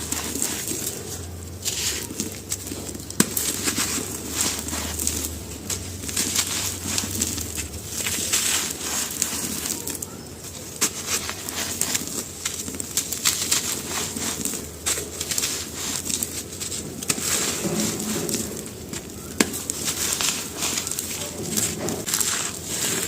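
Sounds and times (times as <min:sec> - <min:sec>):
charcoal crackling and crunching: 0:00.0 - 0:23.0.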